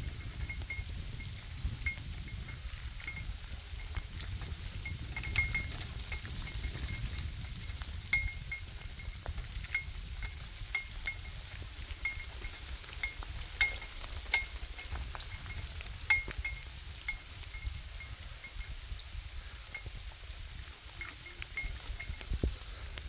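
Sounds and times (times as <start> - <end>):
high metallic clinks: 0.0 - 18.7, 21.0 - 22.3.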